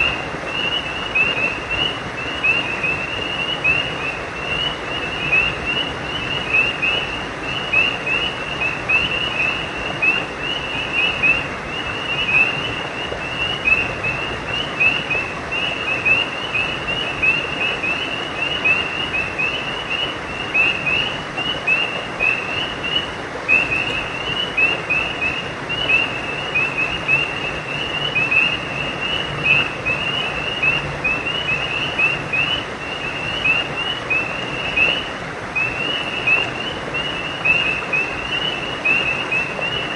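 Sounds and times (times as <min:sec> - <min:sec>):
frogs chirping: 0:00.0 - 0:39.9.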